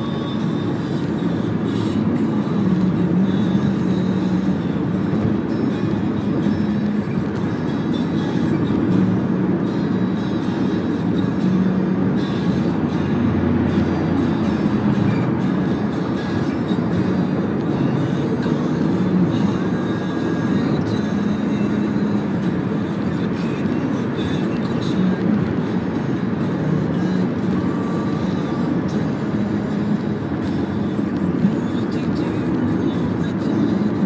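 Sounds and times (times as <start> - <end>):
car road and engine noise: 0.0 - 34.0.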